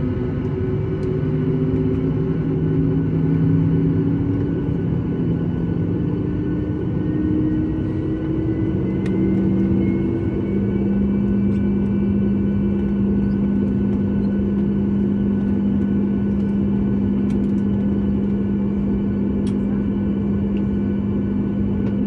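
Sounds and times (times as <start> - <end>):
airplane cabin drone: 0.0 - 22.0
faint engine whine: 0.0 - 22.0.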